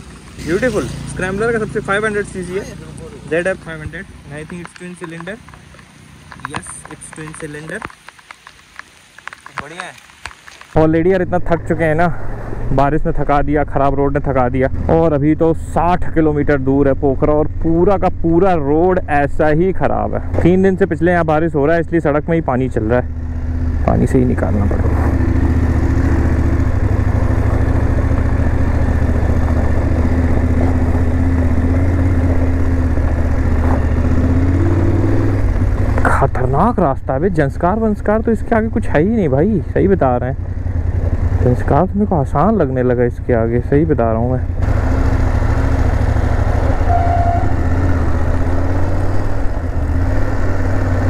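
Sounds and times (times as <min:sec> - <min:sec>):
motorcycle engine running at low revs: 0:00.0 - 0:07.9, 0:10.8 - 0:51.0.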